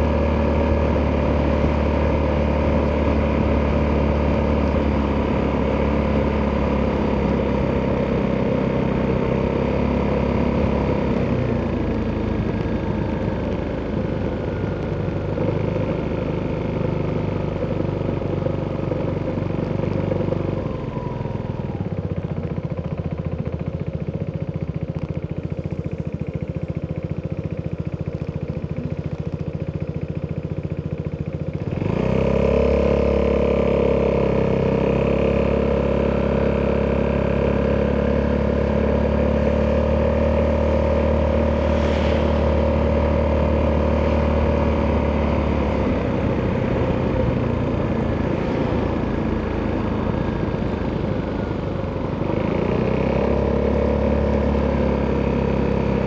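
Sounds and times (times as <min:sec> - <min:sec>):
scooter engine idling and revving: 0:00.0 - 0:56.0.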